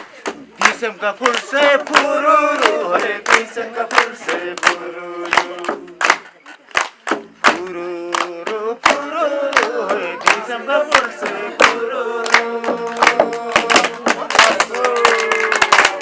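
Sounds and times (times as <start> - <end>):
voices singing folk song: 0.0 - 16.0.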